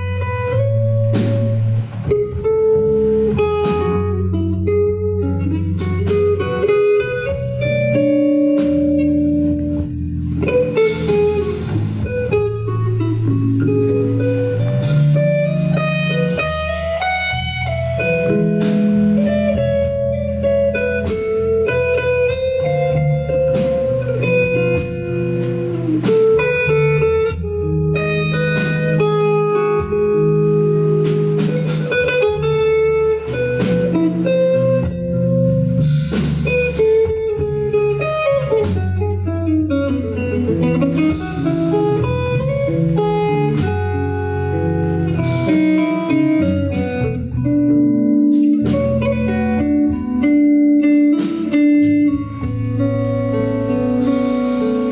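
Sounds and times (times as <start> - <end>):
picked guitar melody: 0.0 - 54.9.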